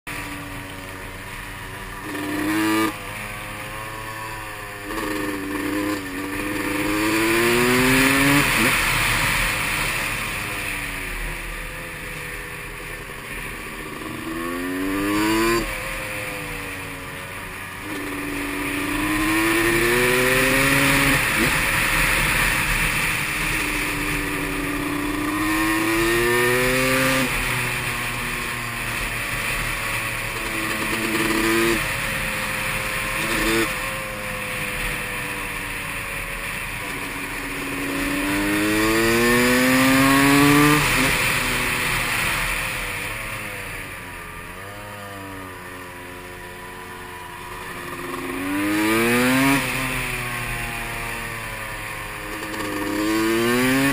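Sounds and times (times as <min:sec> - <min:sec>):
motorcycle engine accelerating: 0:00.1 - 0:53.9.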